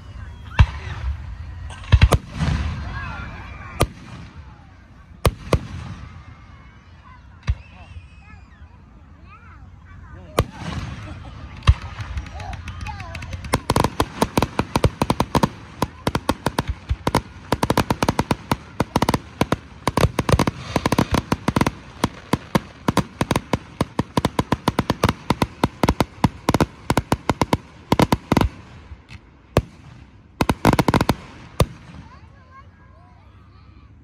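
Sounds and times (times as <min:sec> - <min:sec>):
firework bangs: 0:00.5 - 0:06.6, 0:10.3 - 0:32.6.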